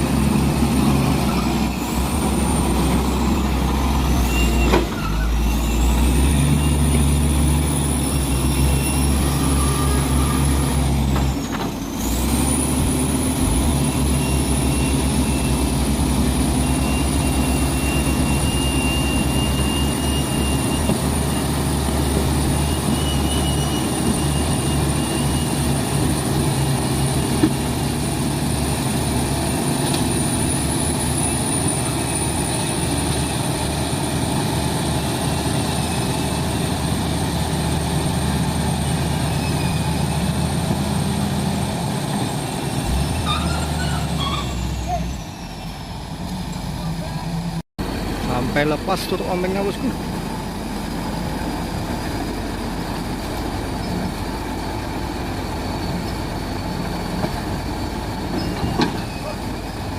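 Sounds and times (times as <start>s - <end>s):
diesel truck engine under load: 0.0s - 59.9s.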